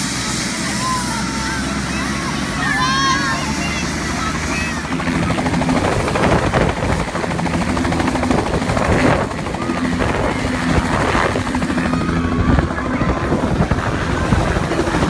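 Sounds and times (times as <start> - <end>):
helicopter engine hum: 0.0 - 15.0
helicopter rotor chop: 0.0 - 15.0.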